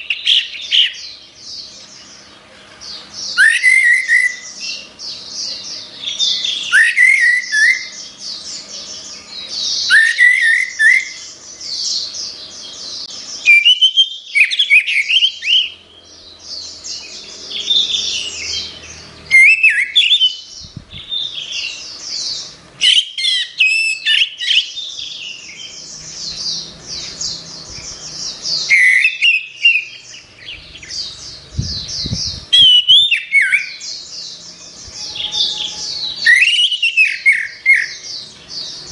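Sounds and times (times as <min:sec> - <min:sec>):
thrush singing: 0:00.0 - 0:38.9.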